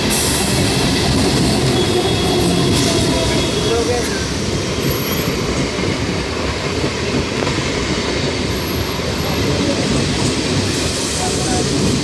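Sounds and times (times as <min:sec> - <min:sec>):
train rumbling along rails: 0:00.0 - 0:12.0.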